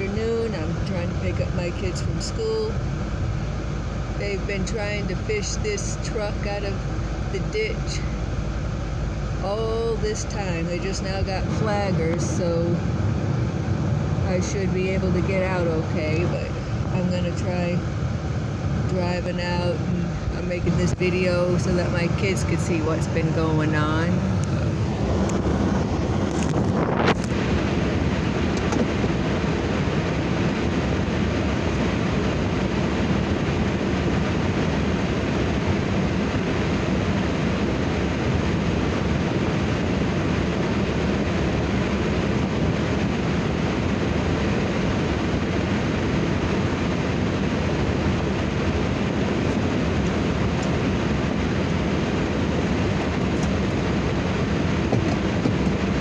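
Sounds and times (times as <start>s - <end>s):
road and wind noise in car: 0.0s - 56.0s.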